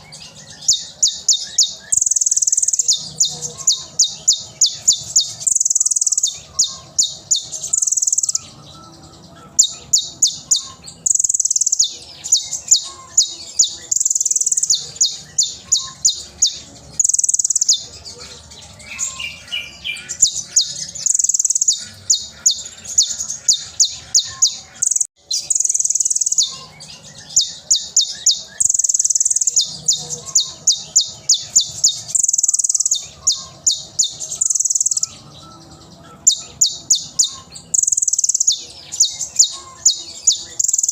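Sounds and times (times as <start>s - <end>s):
bird trill: 0.0s - 40.9s
sunbird singing high staccato notes: 0.0s - 40.9s.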